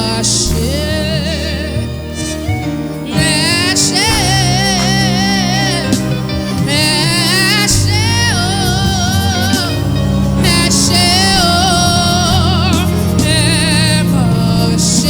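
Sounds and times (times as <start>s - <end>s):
person singing with vibrato: 0.0s - 15.0s
sustained instrumental accompaniment: 0.0s - 15.0s.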